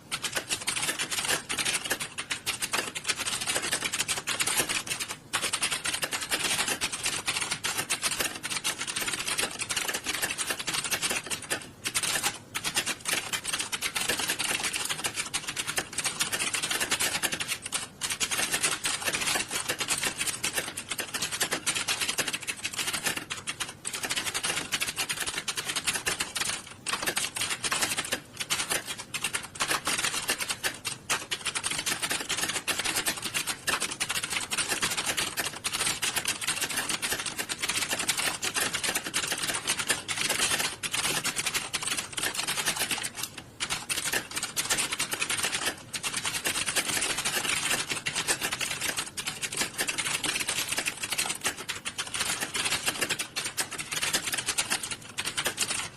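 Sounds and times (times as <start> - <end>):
many keyboards clattering: 0.0 - 55.9.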